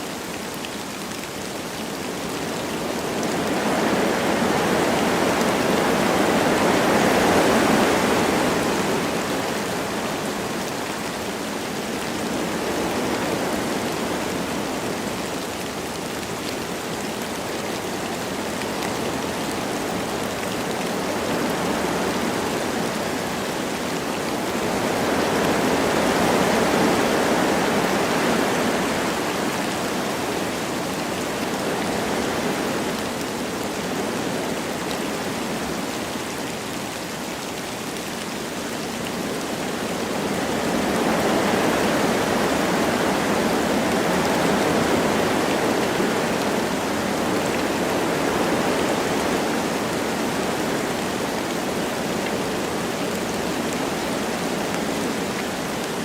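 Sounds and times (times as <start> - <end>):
light rain: 0.0 - 56.0
wind through trees: 0.0 - 56.0.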